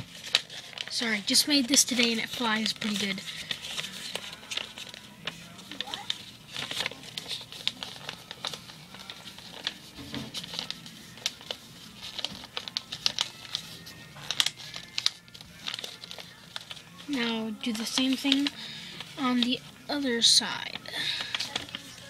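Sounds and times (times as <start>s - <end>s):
faint music: 0.0s - 22.0s
paper crinkling and rustling: 0.0s - 22.0s.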